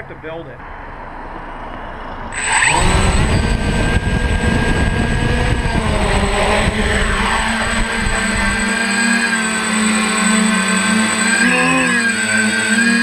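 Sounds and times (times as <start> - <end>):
drone motors buzzing and whining: 1.0 - 13.0.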